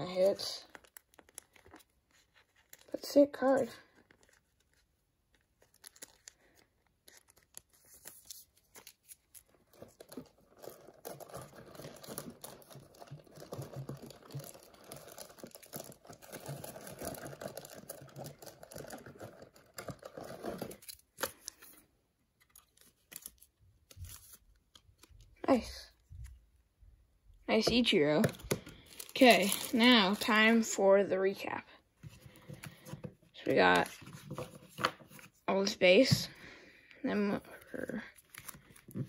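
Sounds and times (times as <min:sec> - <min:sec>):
rustling of cards and packaging: 0:00.0 - 0:26.6, 0:27.5 - 0:39.0.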